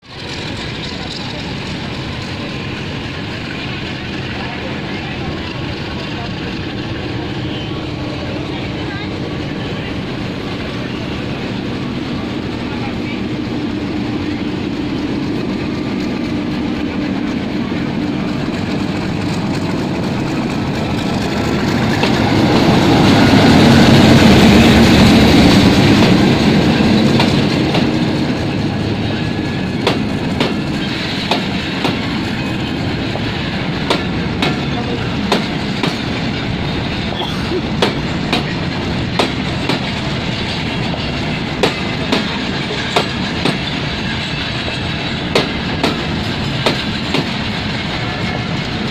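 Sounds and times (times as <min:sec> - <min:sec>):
freight train rumbling past: 0:00.0 - 0:48.9
wheels clacking over rail joints: 0:00.0 - 0:48.9.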